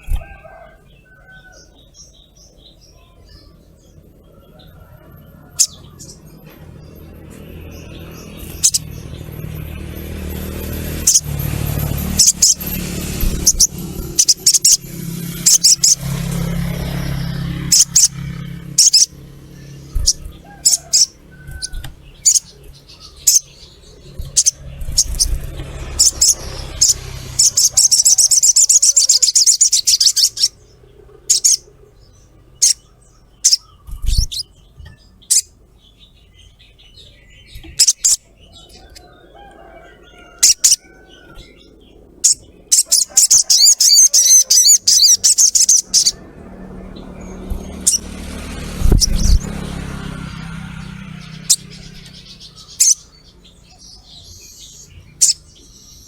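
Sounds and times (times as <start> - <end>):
bird chirping: 0.0 - 56.0
bird chattering: 1.8 - 34.6, 35.2 - 35.6, 37.5 - 39.0, 40.4 - 46.4, 47.1 - 49.6, 50.4 - 56.0.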